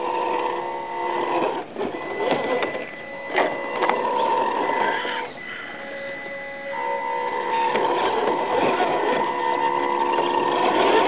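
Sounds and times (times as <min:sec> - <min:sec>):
electric motor and gearbox whining: 0:00.0 - 0:11.0.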